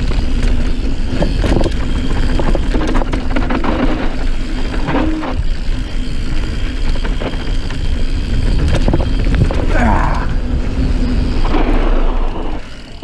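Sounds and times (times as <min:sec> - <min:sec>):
bike tyre and frame rumbling: 0:00.0 - 0:13.0.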